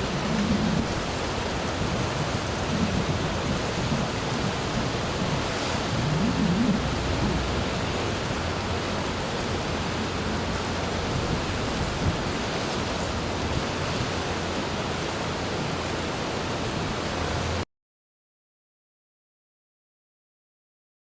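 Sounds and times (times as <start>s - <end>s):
flooded river rushing: 0.0s - 17.6s.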